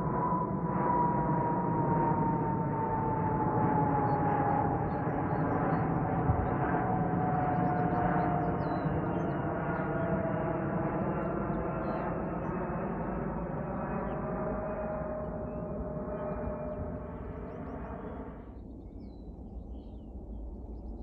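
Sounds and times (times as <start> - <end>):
jet aircraft passing overhead: 0.0 - 18.6.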